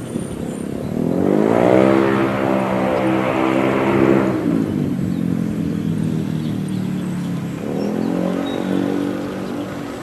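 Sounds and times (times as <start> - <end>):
diesel train engine humming: 1.9 - 10.0.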